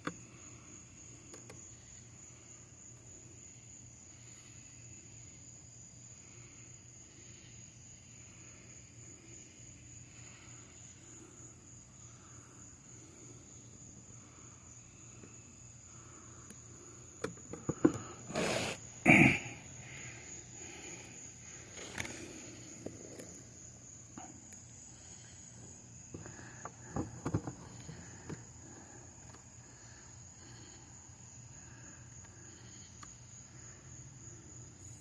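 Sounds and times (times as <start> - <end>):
high-pitched insect trill: 0.1 - 35.0.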